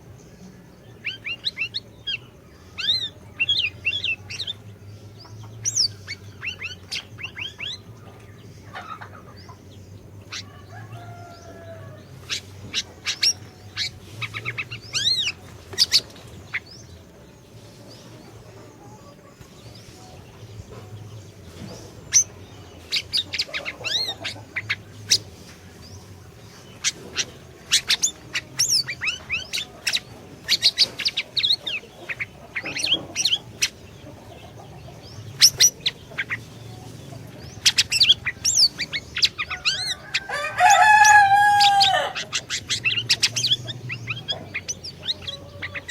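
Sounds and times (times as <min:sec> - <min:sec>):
songbird chirping and whistling: 0:00.0 - 0:18.2, 0:18.8 - 0:45.9.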